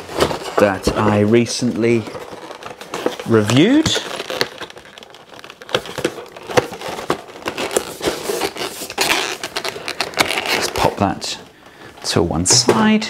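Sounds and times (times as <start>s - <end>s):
packaging crinkling: 0.0s - 11.9s.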